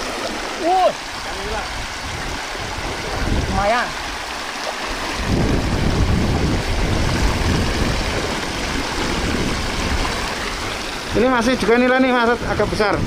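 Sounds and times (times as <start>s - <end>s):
feet wading through water: 0.0s - 11.2s
water rushing over spillway: 0.0s - 13.0s.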